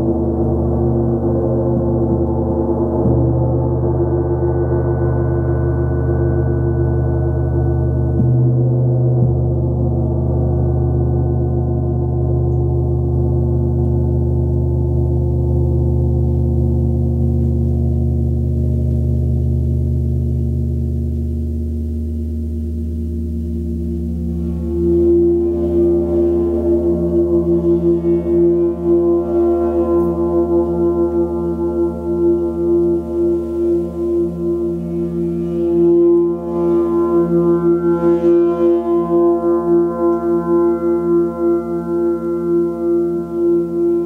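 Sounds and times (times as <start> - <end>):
gong played with soft mallet: 0.0 - 44.0.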